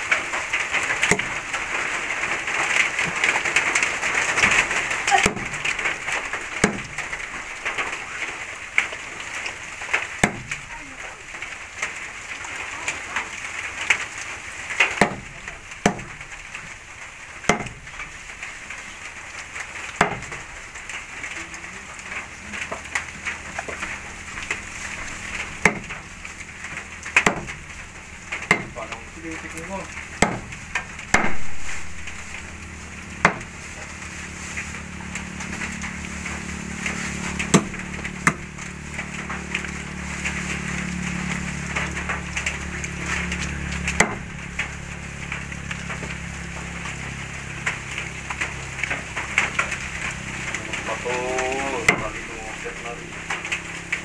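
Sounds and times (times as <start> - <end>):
frying hiss: 0.0 - 54.0.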